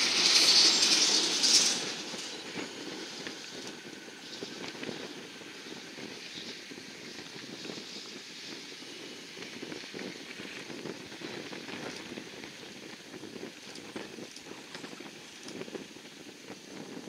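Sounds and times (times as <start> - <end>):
jet engines roaring at takeoff: 0.0 - 17.0
wind buffeting the microphone: 0.0 - 17.0.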